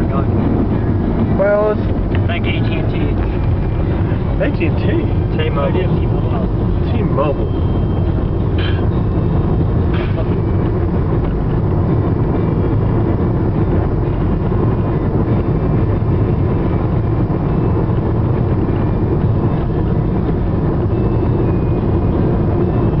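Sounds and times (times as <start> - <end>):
car cabin drone of tyres and engine: 0.0 - 23.0.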